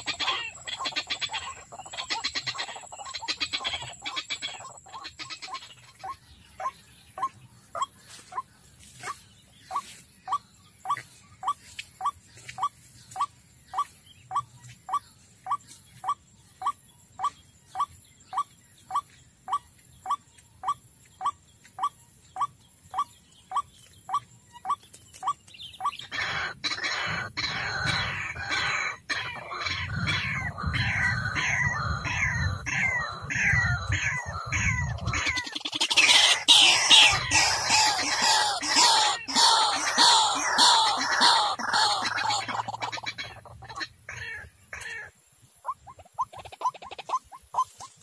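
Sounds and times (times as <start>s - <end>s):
harsh rapid croaking bird calls: 0.0s - 48.0s.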